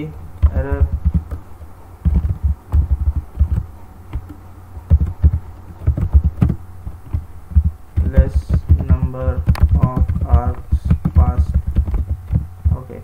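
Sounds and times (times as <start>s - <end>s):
typing on computer keyboard: 0.4s - 1.4s, 2.0s - 12.9s.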